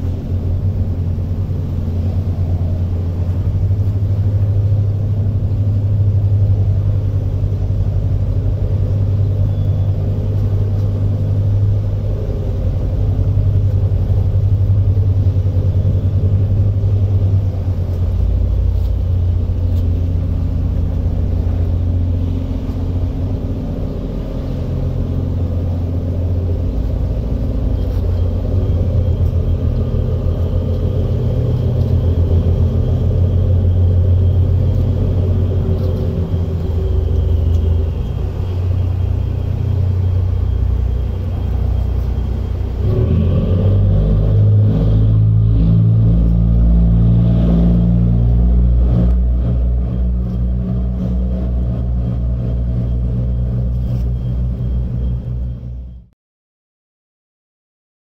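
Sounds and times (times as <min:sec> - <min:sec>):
ferry diesel engines rumbling: 0:00.0 - 0:56.2.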